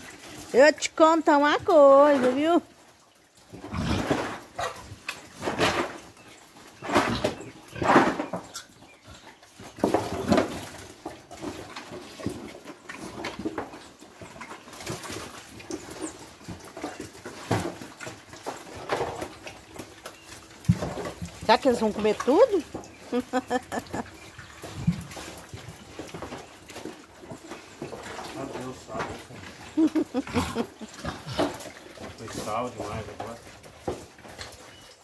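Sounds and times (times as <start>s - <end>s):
pigs grunting and calling: 2.6s - 35.0s.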